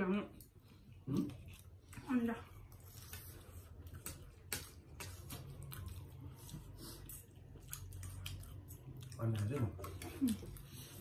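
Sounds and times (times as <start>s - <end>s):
people chewing and slurping noodles: 0.0s - 11.0s.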